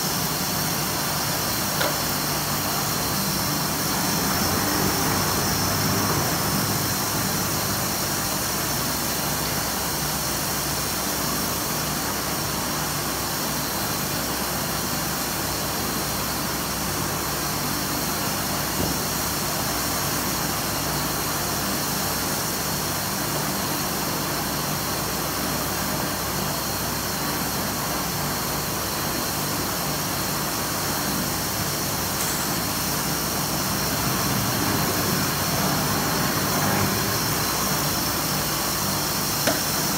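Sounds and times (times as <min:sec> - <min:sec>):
factory machinery drone and hiss: 0:00.0 - 0:39.9.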